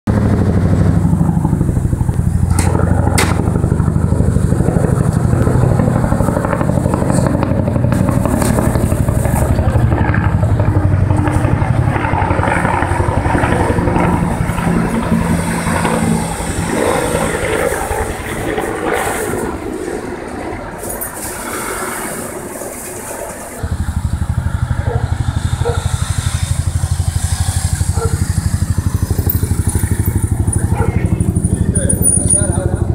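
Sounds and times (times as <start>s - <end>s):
helicopter rotor throbbing: 0.1s - 32.9s.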